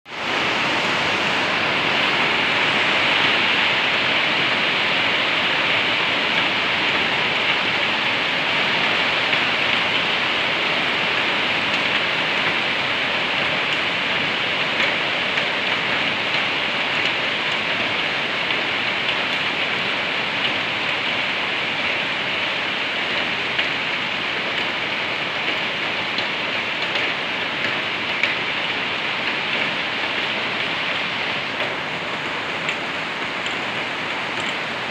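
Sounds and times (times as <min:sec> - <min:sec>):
rain on a metal roof: 0:00.1 - 0:34.9.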